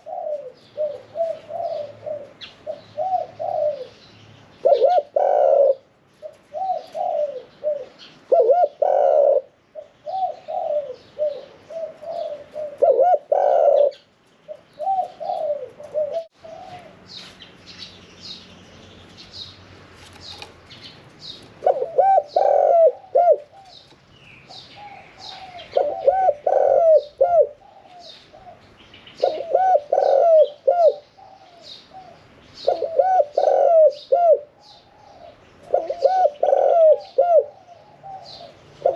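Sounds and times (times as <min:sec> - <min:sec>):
dove cooing: 0:00.0 - 0:04.0, 0:04.6 - 0:17.0, 0:21.6 - 0:23.9, 0:24.5 - 0:28.6, 0:29.2 - 0:38.9.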